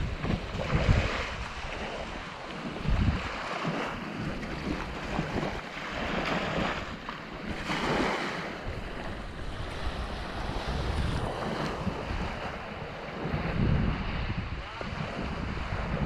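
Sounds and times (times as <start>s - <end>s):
water splashing around kayak: 0.0s - 16.0s
wind buffeting microphone: 0.0s - 16.0s.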